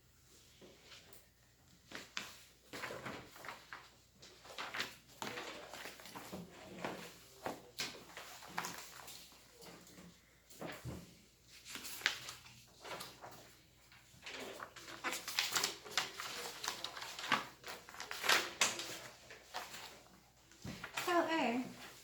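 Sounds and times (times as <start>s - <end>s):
rustling of things handled: 0.2s - 22.0s.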